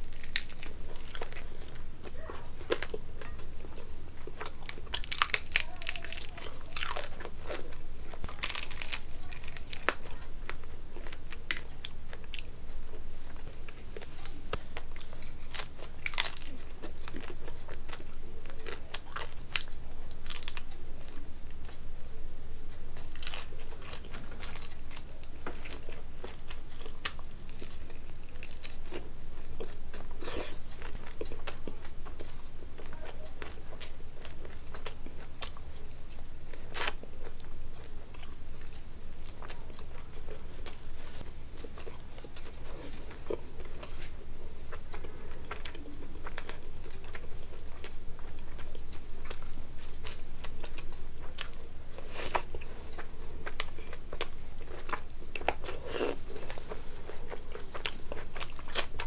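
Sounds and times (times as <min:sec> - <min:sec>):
person chewing food: 0:00.0 - 0:21.8, 0:22.7 - 0:59.0
steady low hum: 0:00.0 - 0:59.0.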